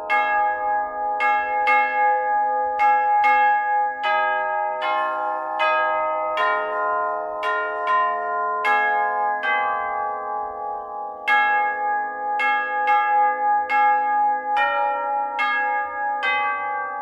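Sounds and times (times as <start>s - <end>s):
tubular bells playing hymn: 0.0s - 17.0s.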